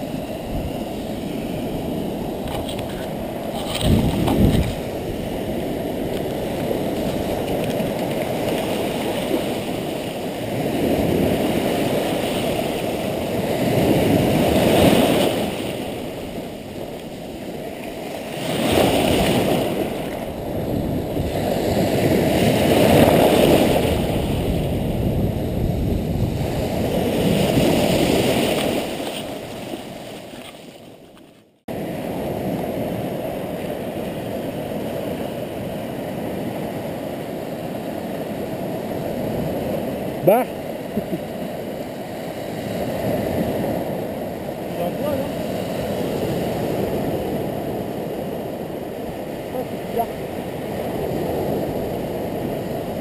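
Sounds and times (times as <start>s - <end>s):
small waves breaking on beach: 0.0s - 53.0s.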